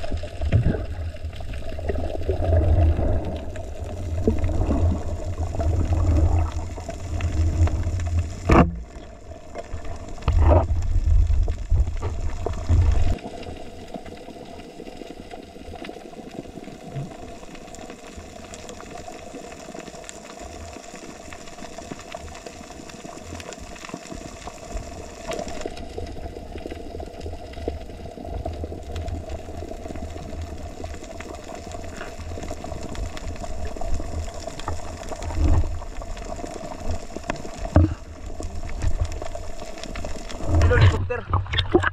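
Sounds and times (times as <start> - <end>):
muffled underwater water noise: 0.0 - 41.9.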